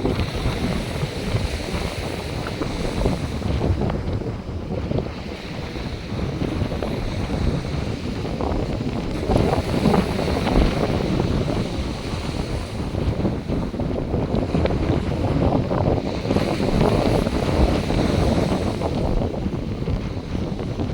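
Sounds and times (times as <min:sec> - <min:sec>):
surf washing onto beach: 0:00.0 - 0:20.9
wind buffeting microphone: 0:00.0 - 0:20.9.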